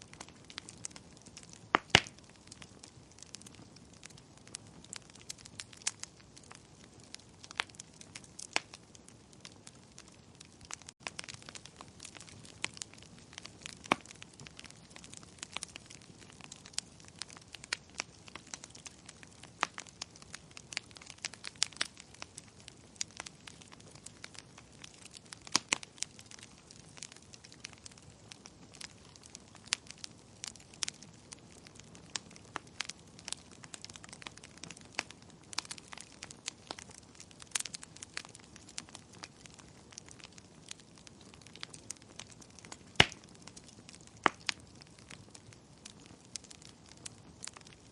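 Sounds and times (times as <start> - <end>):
fire crackling: 0.0 - 47.9.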